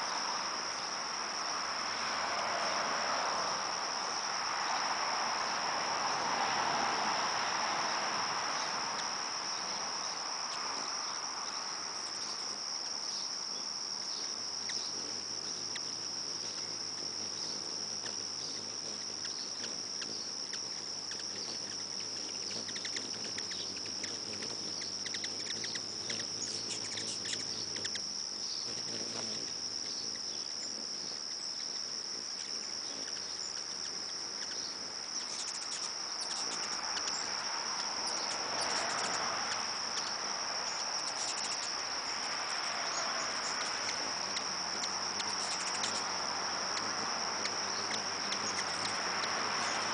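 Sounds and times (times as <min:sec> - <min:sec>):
crickets trilling: 0:00.0 - 0:49.9.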